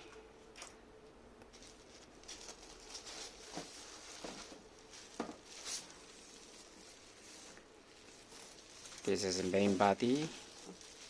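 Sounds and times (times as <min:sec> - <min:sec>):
packaging rustling: 0:01.5 - 0:11.0.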